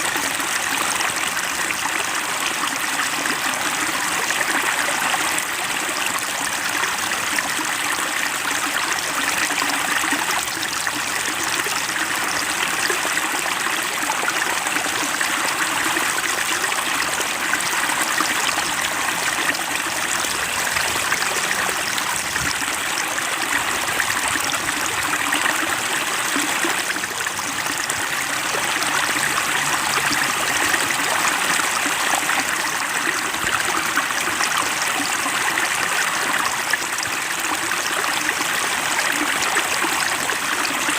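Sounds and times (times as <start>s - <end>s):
water flowing and trickling: 0.0s - 40.9s.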